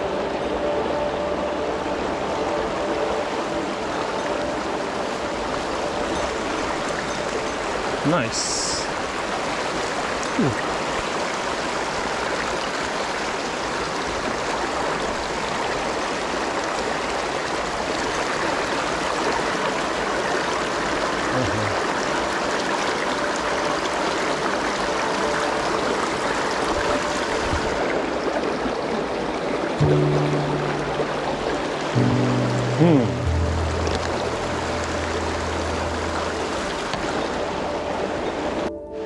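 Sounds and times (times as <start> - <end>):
stream running over rocks: 0.0 - 39.0.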